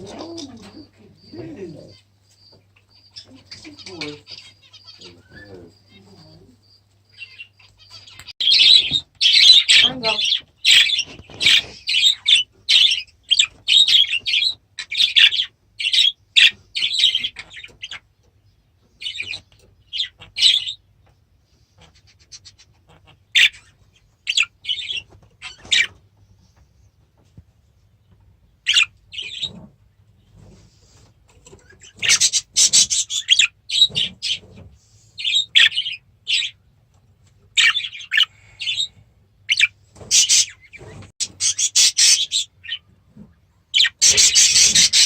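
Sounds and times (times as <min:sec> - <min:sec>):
parrots chirping and squawking: 0:00.0 - 0:02.1, 0:02.8 - 0:06.5, 0:07.1 - 0:18.1, 0:18.8 - 0:26.6, 0:28.6 - 0:36.6, 0:37.5 - 0:45.0.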